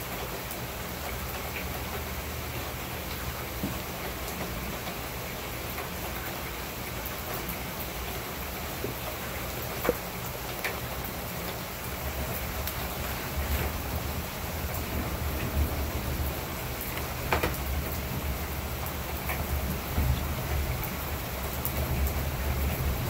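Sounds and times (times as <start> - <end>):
heavy rain on pavement: 0.0 - 23.0
raindrops ticking close by: 0.0 - 23.0.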